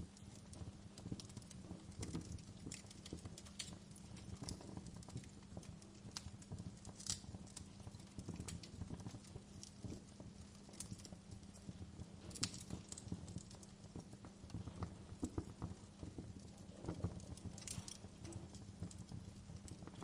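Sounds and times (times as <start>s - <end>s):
low rumble of flames: 0.0s - 20.0s
wood fire pops and snaps: 0.0s - 20.0s.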